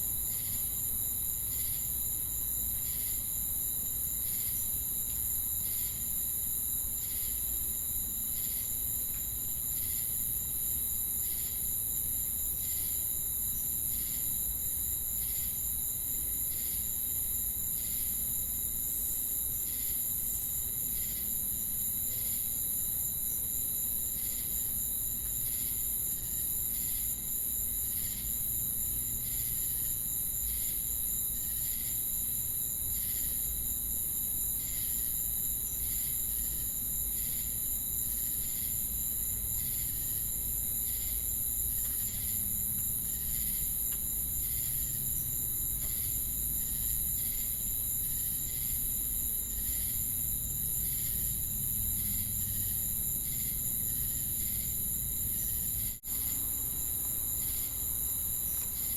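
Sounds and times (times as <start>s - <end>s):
crickets and cicadas chorusing: 0.0s - 58.9s.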